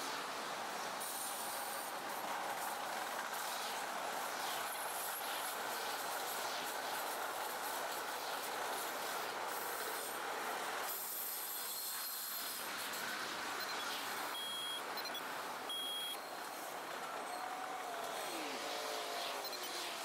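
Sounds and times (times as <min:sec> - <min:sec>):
train rolling along rails: 0:00.0 - 0:20.0.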